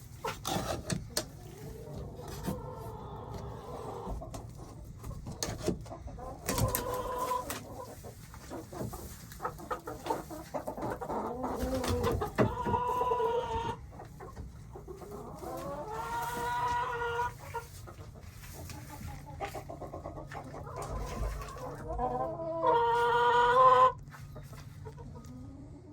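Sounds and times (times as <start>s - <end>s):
chickens clucking: 0.0s - 25.9s
long drawn-out chicken calls: 1.3s - 4.3s, 5.9s - 25.9s.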